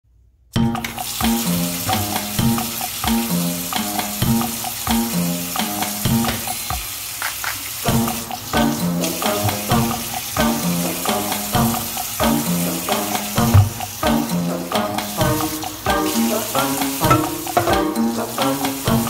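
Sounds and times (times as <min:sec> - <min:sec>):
music with steady beat and bass: 0:00.6 - 0:06.7, 0:07.9 - 0:19.0.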